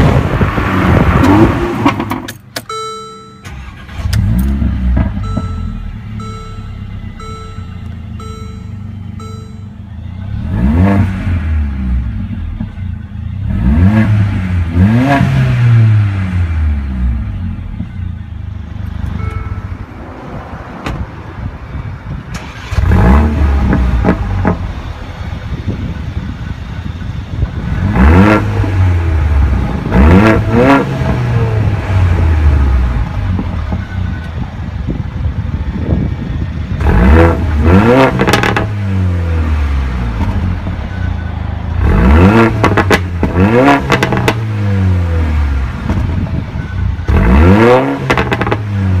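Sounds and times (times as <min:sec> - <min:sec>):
car engine revving: 0:00.0 - 0:02.4, 0:03.4 - 0:21.0, 0:22.3 - 0:26.1, 0:27.4 - 0:33.8, 0:36.7 - 0:49.0.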